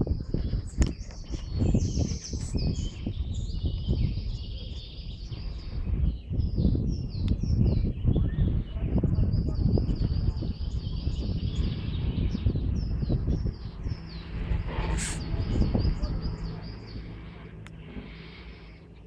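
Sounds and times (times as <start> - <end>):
low uneven rumble: 0.0 - 19.0
small birds chirping: 0.0 - 19.0.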